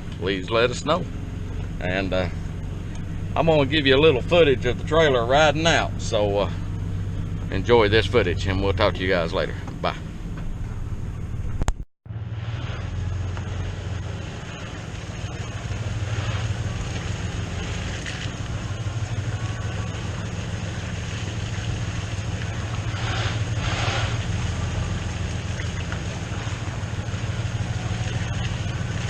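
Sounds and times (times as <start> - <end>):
vehicle engine running under load: 0.0 - 29.0.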